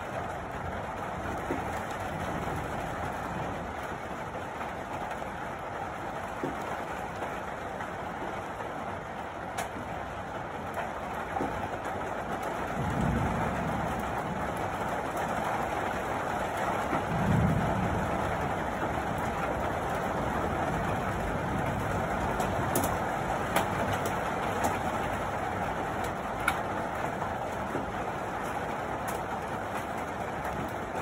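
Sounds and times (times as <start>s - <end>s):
hailstones ticking: 0.0s - 31.0s
rain and hail downpour: 0.0s - 31.0s.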